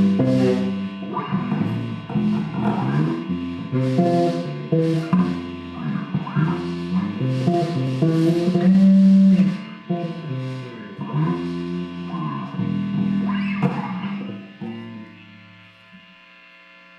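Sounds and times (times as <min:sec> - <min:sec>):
guitar plucked notes: 0:00.0 - 0:16.0.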